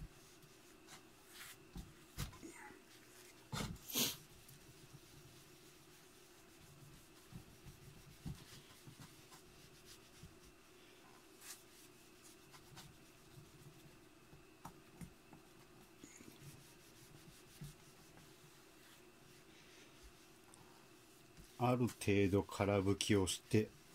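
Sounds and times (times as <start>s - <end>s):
cloth rubbing on metal: 0.0s - 14.2s, 15.3s - 23.9s.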